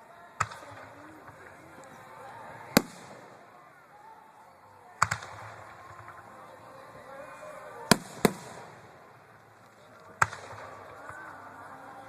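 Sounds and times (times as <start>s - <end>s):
faint crowd chatter: 0.0s - 12.0s
fireworks bangs: 0.4s - 3.8s, 4.8s - 12.0s.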